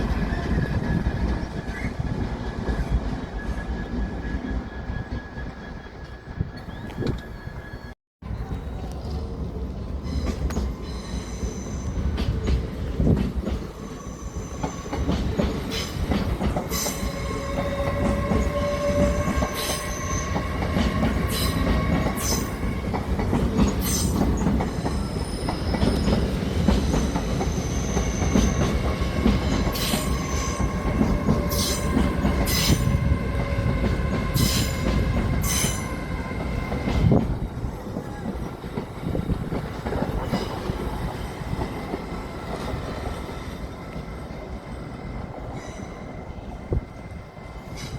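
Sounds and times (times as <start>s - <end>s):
train wheels squealing: 0.0s - 8.0s, 10.0s - 12.6s, 13.6s - 22.9s, 23.6s - 37.2s, 38.0s - 46.6s, 47.6s - 47.9s
train rumbling: 0.0s - 47.9s.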